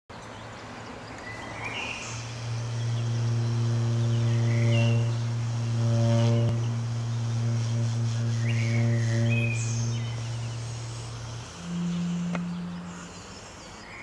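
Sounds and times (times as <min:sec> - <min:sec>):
bird chirps: 0:00.2 - 0:14.0
saxophone long low note: 0:02.0 - 0:13.4.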